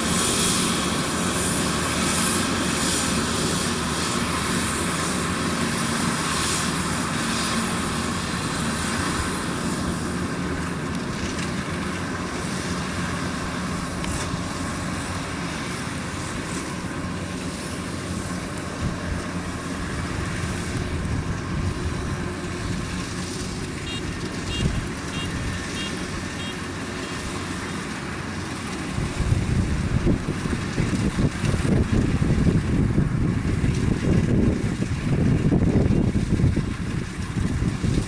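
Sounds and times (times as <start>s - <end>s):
combine harvester engine drone: 0.0s - 38.0s
cutting and threshing machinery: 0.0s - 38.0s.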